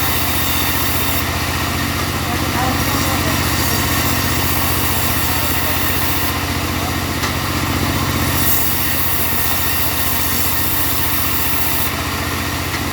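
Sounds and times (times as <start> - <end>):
sawmill engine running: 0.0 - 12.9.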